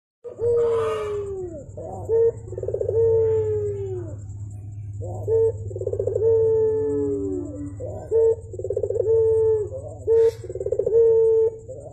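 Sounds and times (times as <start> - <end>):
dove cooing: 0.2 - 11.9
steady low hum: 0.2 - 11.9.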